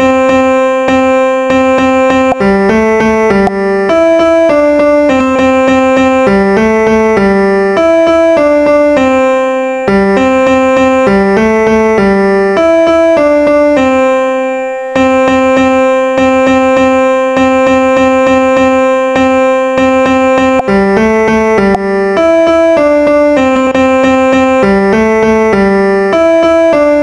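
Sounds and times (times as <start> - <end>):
background music melody: 0.0 - 27.0.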